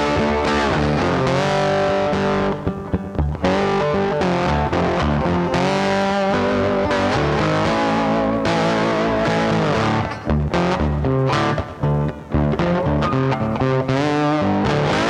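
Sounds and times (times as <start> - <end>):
bass line: 0.0 - 15.0
distorted electric guitar: 0.0 - 15.0.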